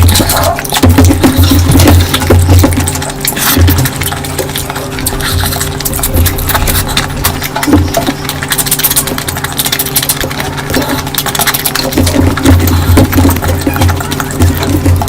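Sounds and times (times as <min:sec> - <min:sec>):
steady low hum: 0:00.0 - 0:15.0
wet chewing and mouth clicks: 0:00.0 - 0:15.0.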